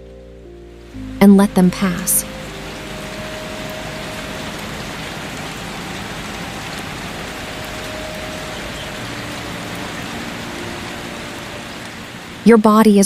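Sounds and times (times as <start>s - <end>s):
rain falling: 0.1s - 13.0s.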